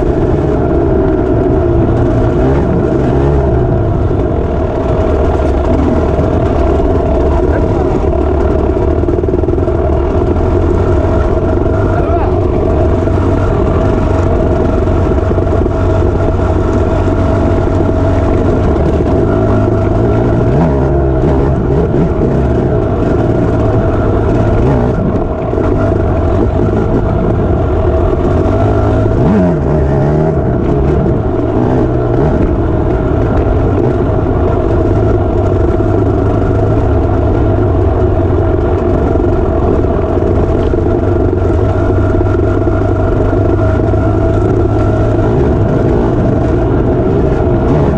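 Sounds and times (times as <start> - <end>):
dirt bike engine running hard: 0.0 - 47.9.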